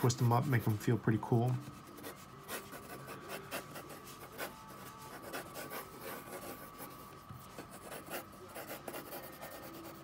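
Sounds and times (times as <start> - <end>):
pencil drawing on paper: 1.5 - 10.0.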